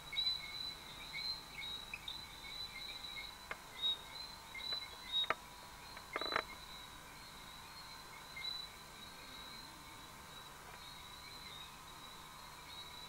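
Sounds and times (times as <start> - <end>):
insects and frogs chirping: 0.0 - 13.0.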